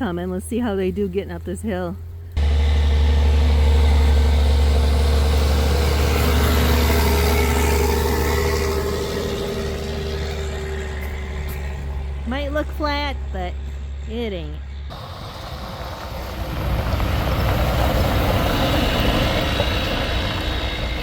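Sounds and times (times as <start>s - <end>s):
vehicle engine under load: 0.0s - 21.0s.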